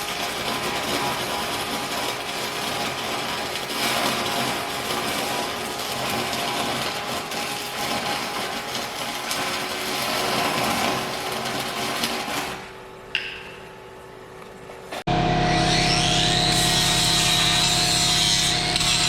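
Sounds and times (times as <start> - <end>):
welding arc crackling: 0.0 - 12.8, 16.1 - 19.0.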